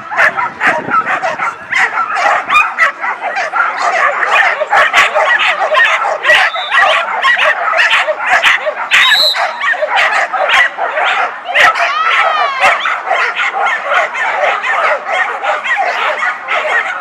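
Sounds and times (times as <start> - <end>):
many dogs barking and yipping: 0.0 - 17.0
high whining dog yelps: 0.1 - 17.0.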